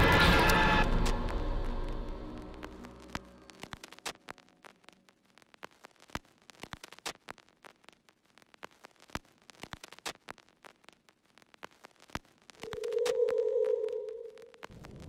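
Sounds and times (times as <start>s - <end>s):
static crackle clicks and pops: 0.0s - 15.0s.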